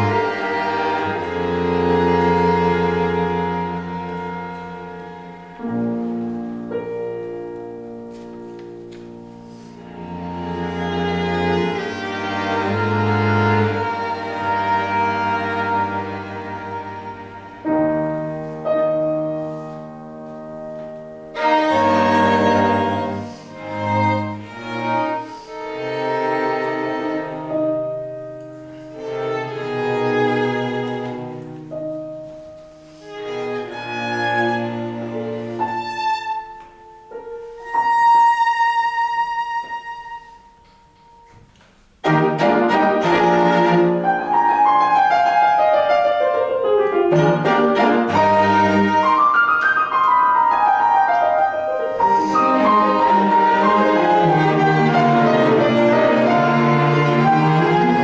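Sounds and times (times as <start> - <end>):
piano quartet chamber music: 0.0 - 58.0.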